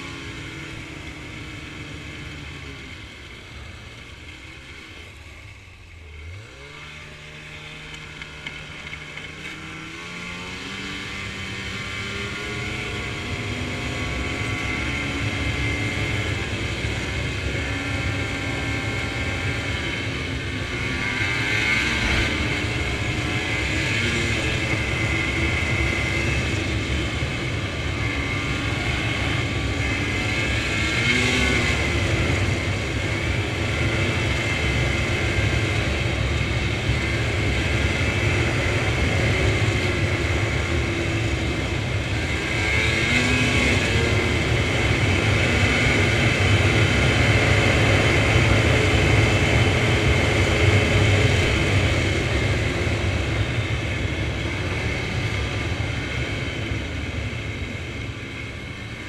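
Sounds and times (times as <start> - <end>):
snowmobile engine: 0.0 - 59.0.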